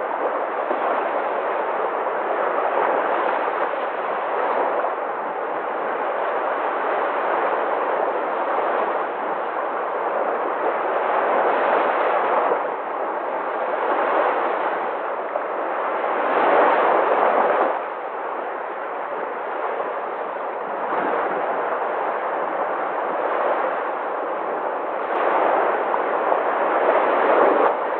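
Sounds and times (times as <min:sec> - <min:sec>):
sea waves surf: 0:00.0 - 0:27.9.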